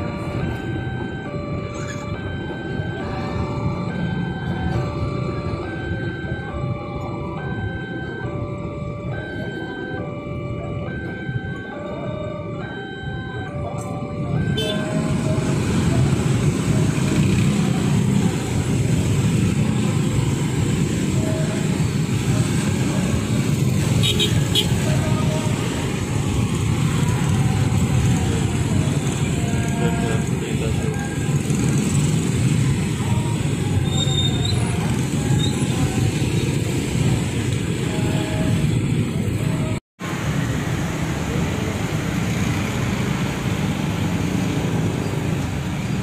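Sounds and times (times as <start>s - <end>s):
heavy engines rumbling: 0.0s - 46.0s.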